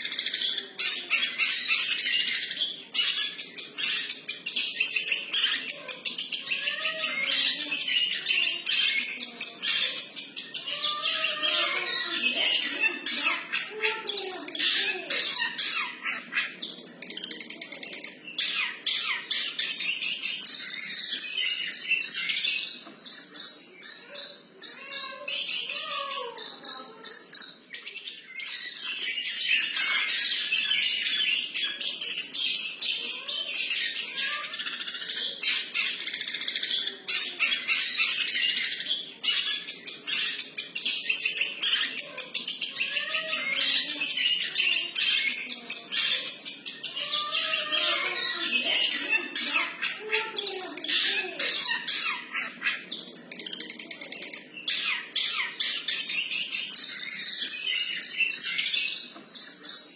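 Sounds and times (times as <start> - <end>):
bird singing chirps and trills: 0.0 - 59.9.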